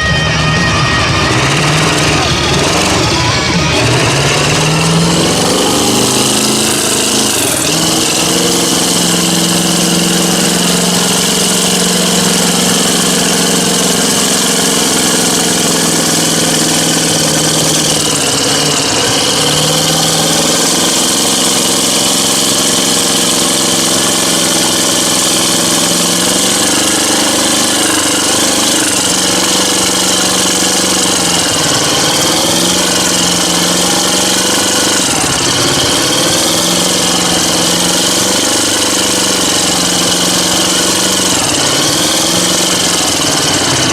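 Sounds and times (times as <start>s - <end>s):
truck engine running hard: 0.0s - 43.9s.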